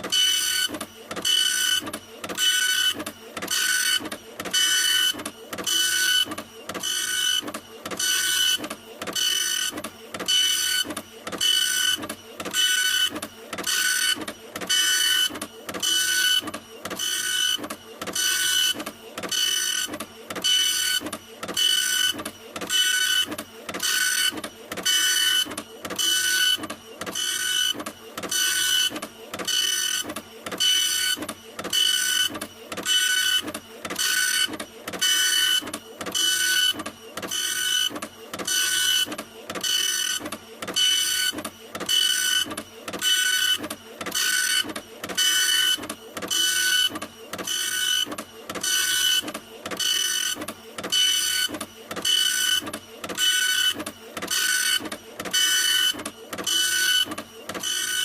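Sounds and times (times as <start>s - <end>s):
printer mechanism whirring: 0.0s - 58.0s.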